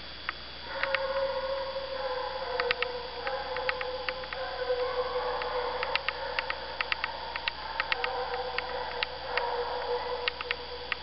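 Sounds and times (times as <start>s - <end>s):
hounds baying: 0.7s - 11.0s.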